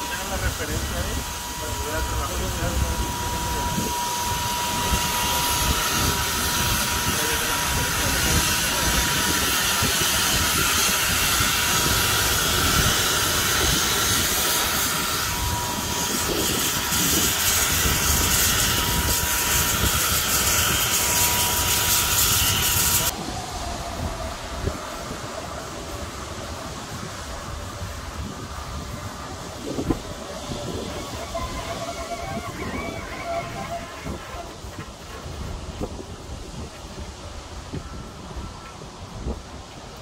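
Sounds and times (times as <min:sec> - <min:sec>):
jet turbine hiss and whine: 0:00.0 - 0:40.0.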